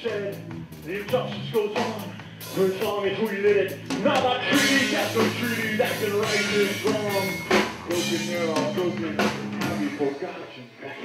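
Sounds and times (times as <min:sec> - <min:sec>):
live rock band playing: 0:00.0 - 0:10.2
person singing: 0:00.9 - 0:11.0.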